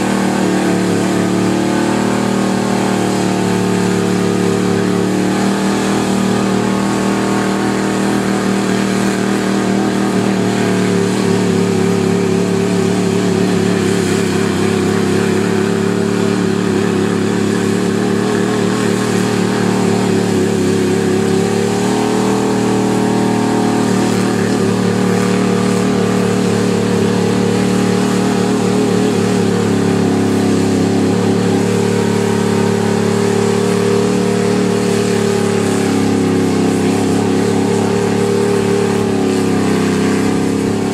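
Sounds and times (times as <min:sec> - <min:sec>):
truck engine revving high: 0:00.0 - 0:40.9.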